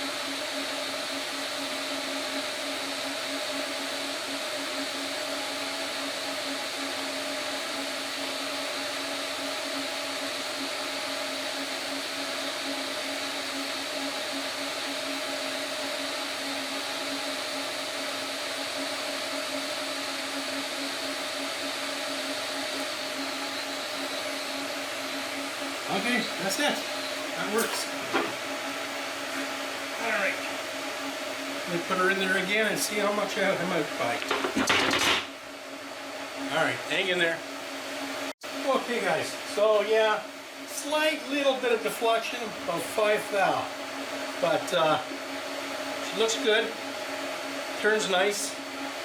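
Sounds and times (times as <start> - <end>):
metal lathe humming and whining: 0.0 - 49.0.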